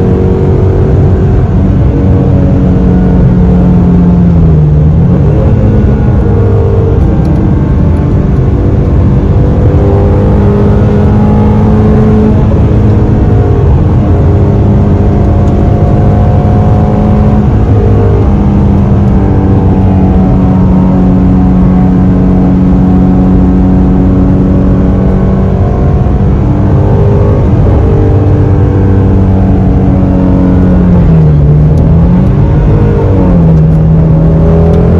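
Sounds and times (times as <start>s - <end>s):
car engine running steadily: 0.0s - 34.9s.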